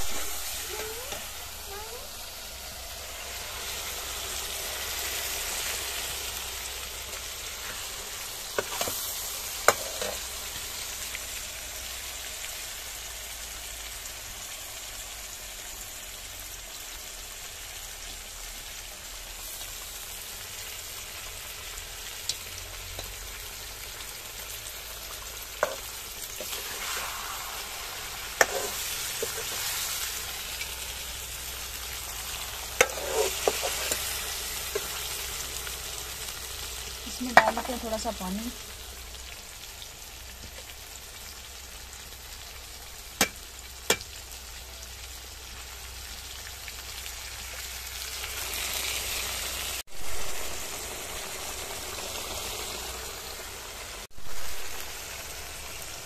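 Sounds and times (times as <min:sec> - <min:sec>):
fish sizzling in oil: 0:00.0 - 0:56.0.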